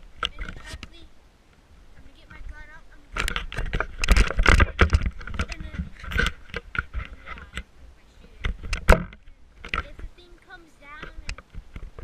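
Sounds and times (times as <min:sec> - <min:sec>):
clicks and rustling of handling: 0:00.2 - 0:01.0, 0:03.1 - 0:12.0.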